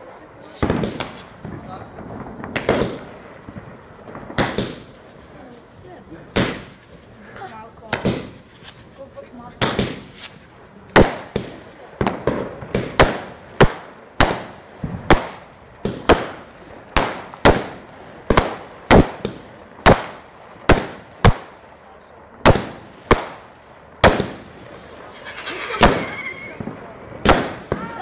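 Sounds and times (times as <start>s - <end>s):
fireworks bangs echoing: 0.0s - 28.0s.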